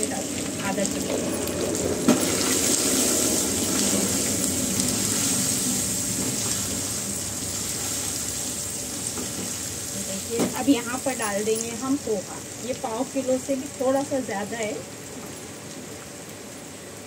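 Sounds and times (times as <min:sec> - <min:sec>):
food sizzling in oil: 0:00.0 - 0:16.7.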